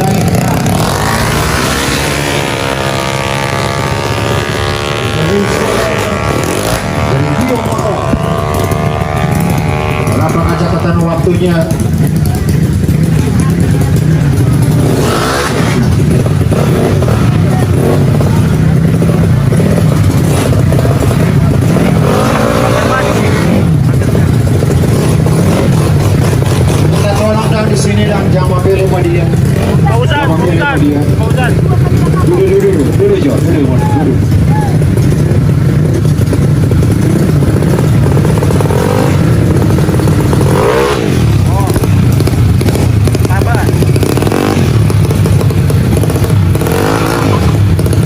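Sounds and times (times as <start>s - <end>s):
scooter engine running loudly: 0.0s - 48.0s.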